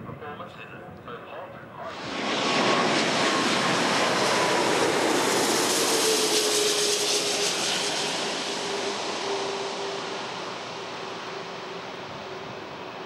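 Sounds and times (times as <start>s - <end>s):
jet airliner roaring past: 1.6s - 13.0s.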